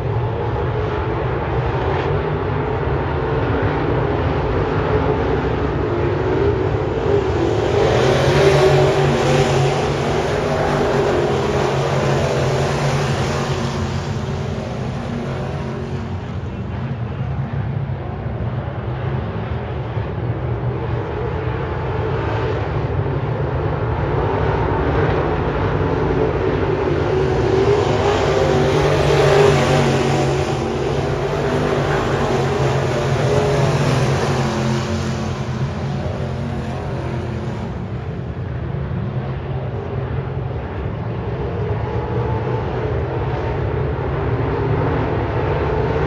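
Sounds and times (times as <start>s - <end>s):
race car engines: 0.0s - 46.0s.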